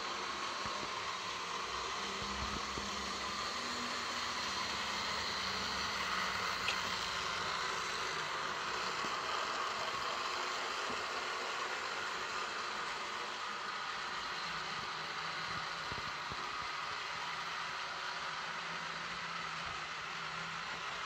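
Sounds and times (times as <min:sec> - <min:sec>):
model trains whirring: 0:00.0 - 0:21.0.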